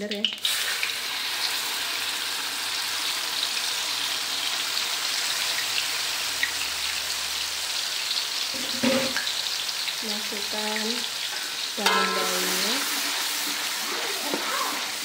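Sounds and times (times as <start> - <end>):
paste sizzling in hot oil: 0.3 - 15.0.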